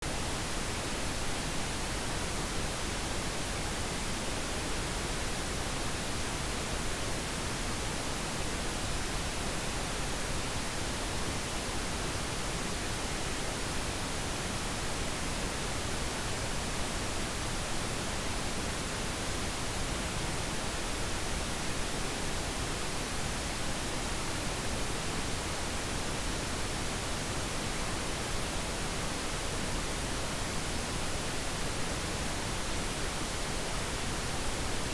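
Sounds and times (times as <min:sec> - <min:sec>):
steady pink noise hiss: 0:00.0 - 0:34.9.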